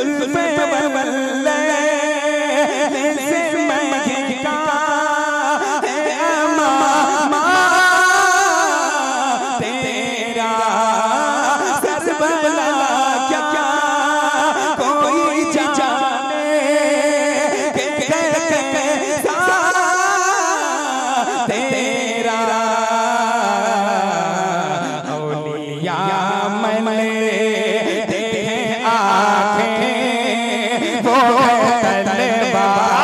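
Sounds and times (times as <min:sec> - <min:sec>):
man singing into a microphone: 0:00.0 - 0:33.0.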